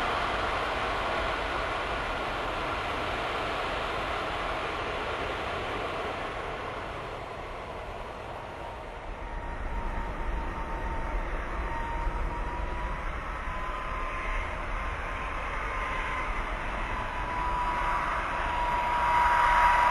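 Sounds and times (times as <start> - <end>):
jet engines on approach: 0.0 - 19.9.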